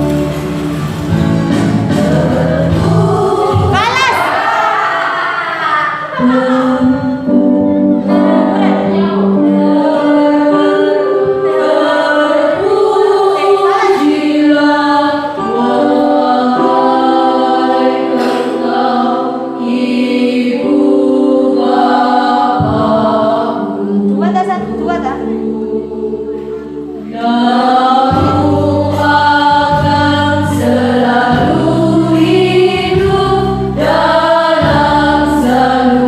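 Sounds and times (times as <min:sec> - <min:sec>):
choir singing: 0:00.0 - 0:36.0.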